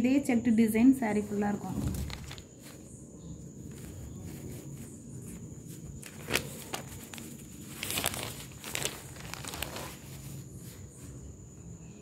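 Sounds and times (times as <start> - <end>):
fabric rustling and crinkling: 1.1 - 11.2.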